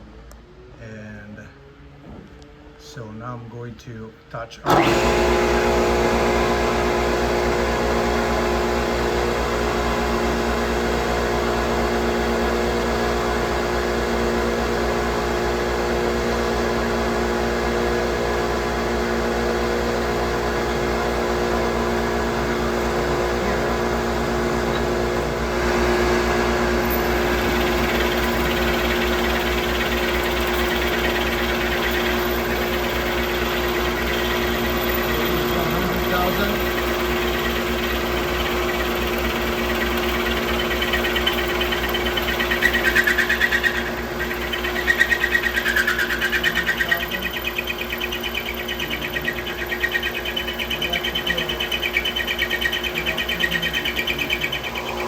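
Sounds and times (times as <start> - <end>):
milling machine humming: 4.6 - 55.0.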